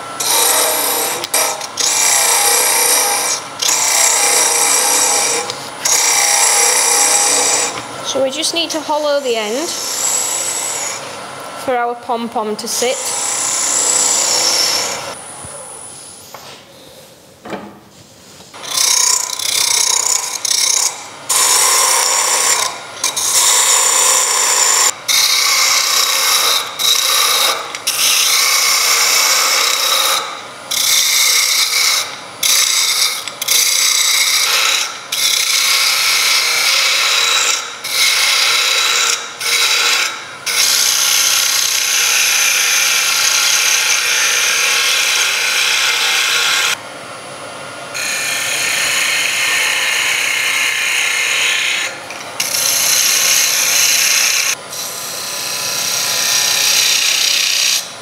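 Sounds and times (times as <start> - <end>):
lathe gouge scraping wood: 0.0 - 7.9, 9.7 - 11.1, 12.8 - 15.2, 18.6 - 46.8, 48.0 - 57.8.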